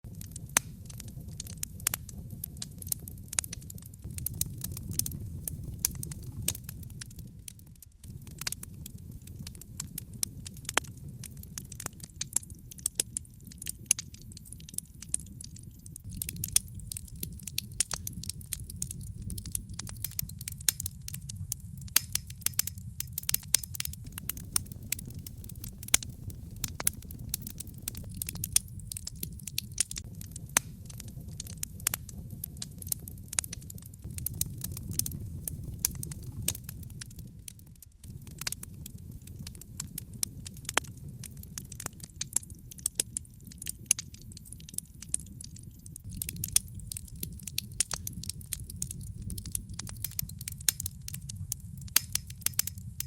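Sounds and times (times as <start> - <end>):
fire rumbling: 0.0 - 53.0
burning logs crackling and popping: 0.1 - 53.0.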